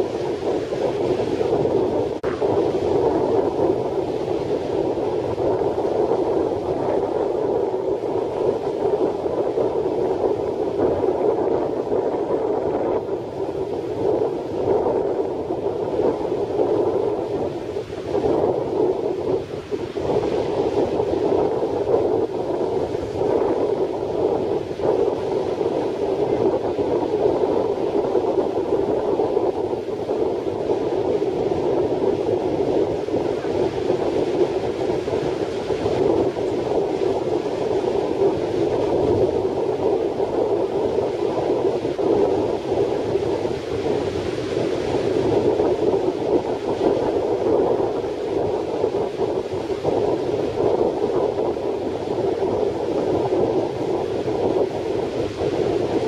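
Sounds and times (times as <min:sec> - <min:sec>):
breaking surf: 0:00.0 - 0:56.0
wind buffeting microphone: 0:00.0 - 0:56.0.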